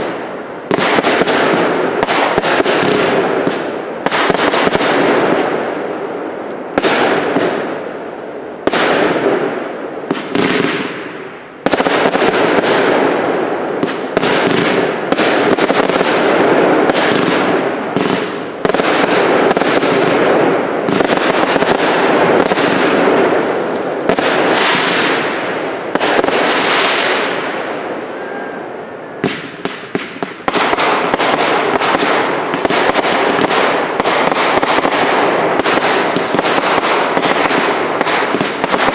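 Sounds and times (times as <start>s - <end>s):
fireworks barrage bangs and crackle: 0.0s - 38.9s.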